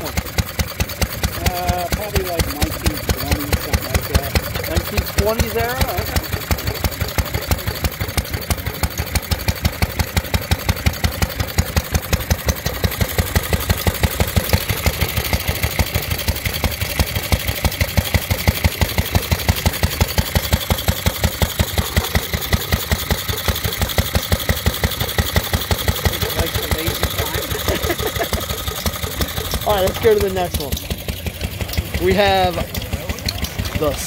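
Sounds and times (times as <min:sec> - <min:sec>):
hit-and-miss engine exhaust beats: 0:00.0 - 0:34.0.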